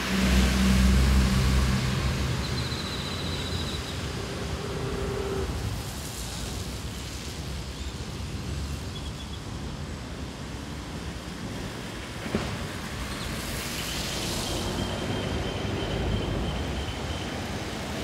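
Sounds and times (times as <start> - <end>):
rain: 0.0 - 18.0.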